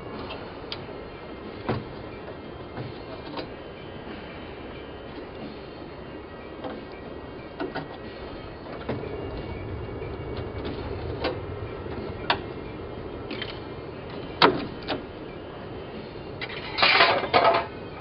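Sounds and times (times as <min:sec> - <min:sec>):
steady low rumble: 0:03.5 - 0:18.0.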